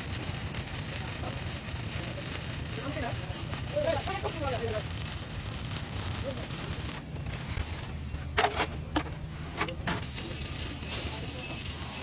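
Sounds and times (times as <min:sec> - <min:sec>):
welding arc hissing: 0:00.0 - 0:07.9, 0:09.4 - 0:12.0.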